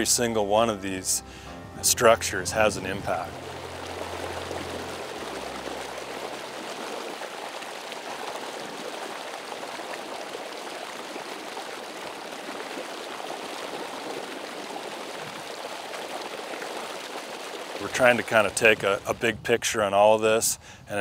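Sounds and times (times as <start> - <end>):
river water rushing over dam: 2.3 - 19.2.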